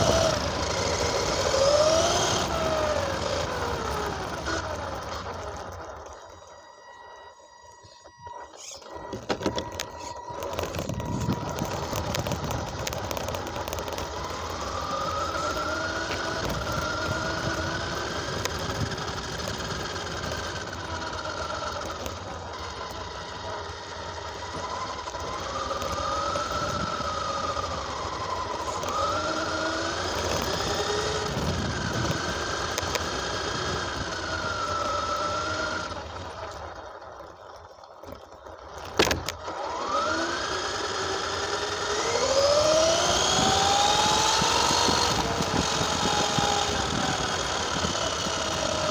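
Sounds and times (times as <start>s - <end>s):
toy car motor whining: 0.0s - 48.9s.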